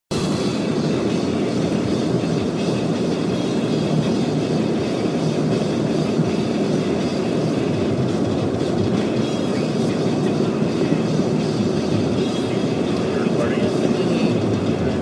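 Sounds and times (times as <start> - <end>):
road and tyre noise: 0.1 - 15.0.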